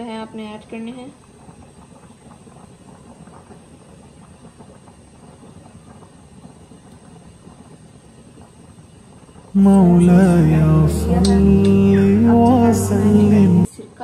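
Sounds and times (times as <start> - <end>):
gas stove burner rumble: 1.6 - 13.7.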